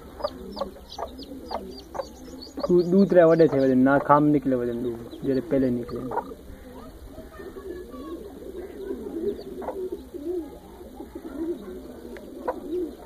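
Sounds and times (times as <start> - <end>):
birds cooing: 0.0 - 13.0.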